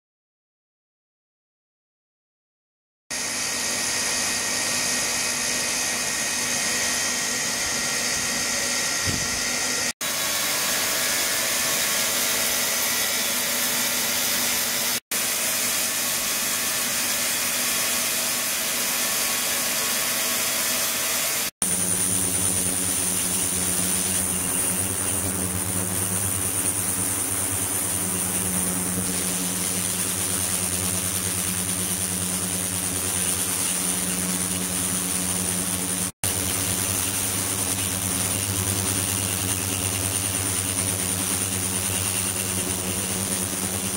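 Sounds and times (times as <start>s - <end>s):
high-pitched whine: 3.2s - 43.9s
machine hum: 3.2s - 43.9s.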